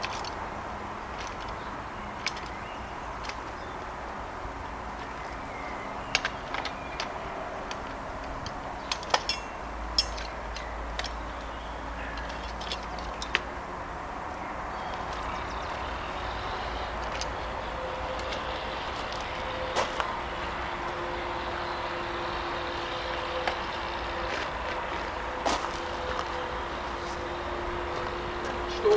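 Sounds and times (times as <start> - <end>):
outdoor background noise: 0.0 - 28.9.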